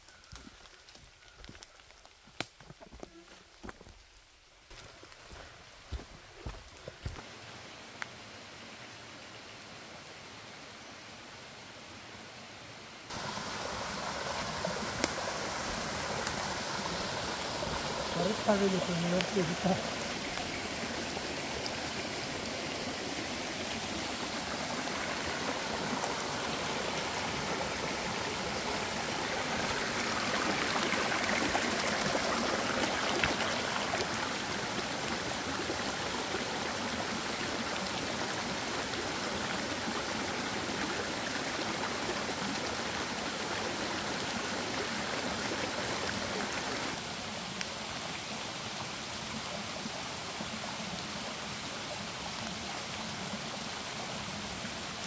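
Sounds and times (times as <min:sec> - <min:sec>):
stream flowing water: 0:04.7 - 0:55.0.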